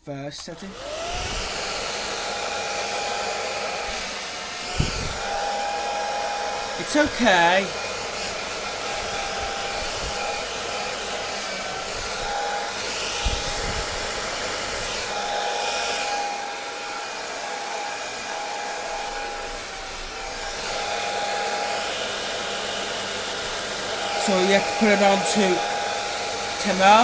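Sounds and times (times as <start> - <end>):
hair dryer running: 0.1 - 27.0.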